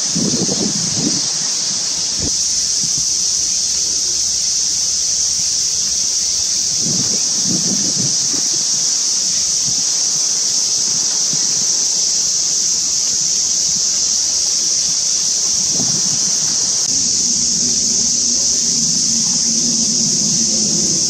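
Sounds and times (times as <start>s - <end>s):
insect chorus shrilling: 0.0s - 21.0s.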